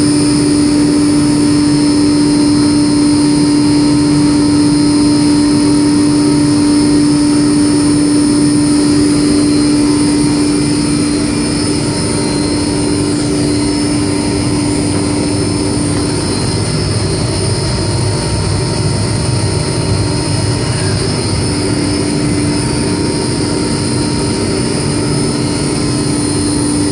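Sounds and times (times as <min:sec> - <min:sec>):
laundry machine whirring: 0:00.0 - 0:26.9
motor hum: 0:00.0 - 0:26.9.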